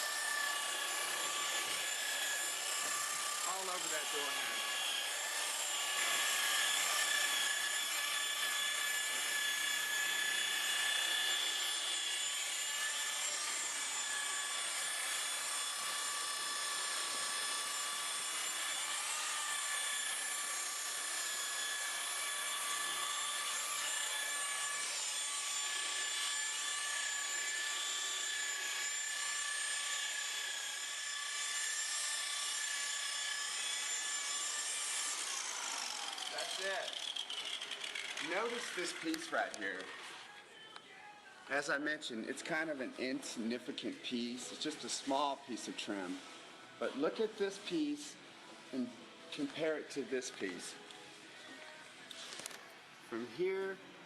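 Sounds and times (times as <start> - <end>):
electric polisher motor whine: 0.0 - 41.2, 44.2 - 52.6.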